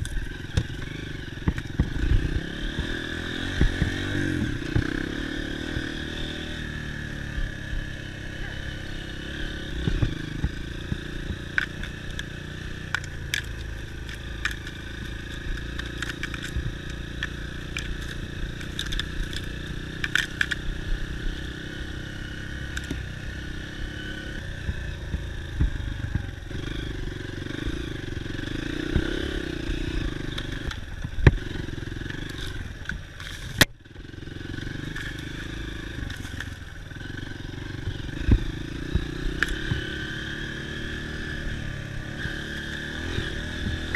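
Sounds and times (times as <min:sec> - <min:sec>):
bike rattling over rough ground: 0:00.0 - 0:43.9
dirt bike engine running: 0:00.0 - 0:43.9.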